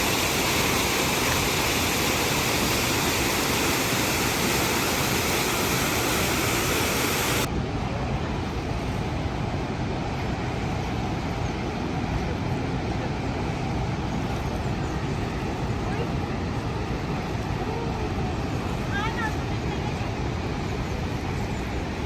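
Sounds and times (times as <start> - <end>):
deep water rumble: 0.0 - 22.0
waterfall roaring: 0.0 - 22.0.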